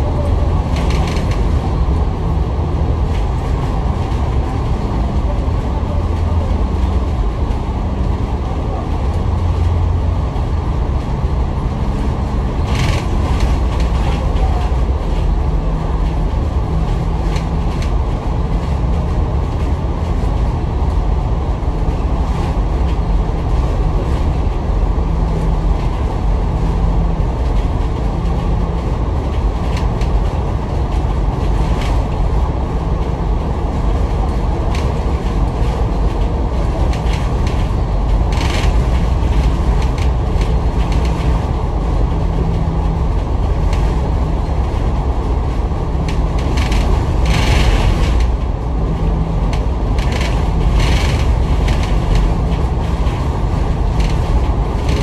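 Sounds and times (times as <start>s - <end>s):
air-conditioning noise: 0.0s - 55.0s
bus engine rumble: 0.0s - 55.0s.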